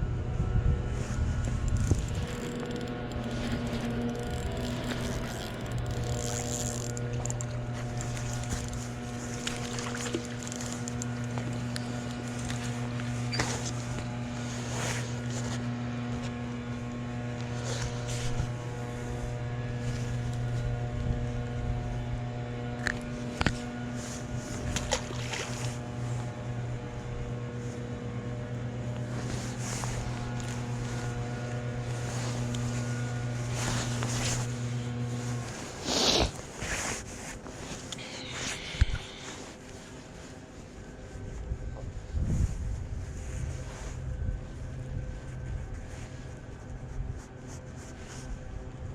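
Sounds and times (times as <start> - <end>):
boat motor humming: 0.0 - 48.9
loud rustle: 0.8 - 22.0, 28.8 - 48.7.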